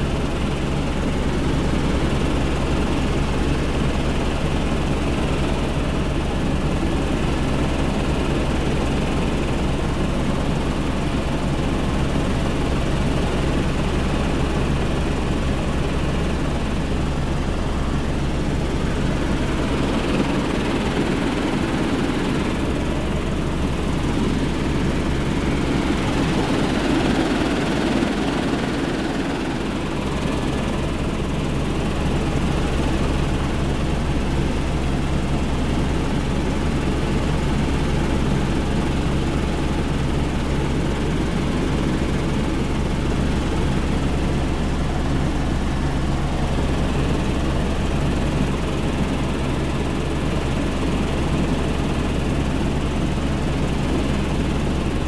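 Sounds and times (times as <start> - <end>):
helicopter rotor and engine hum: 0.0 - 55.0.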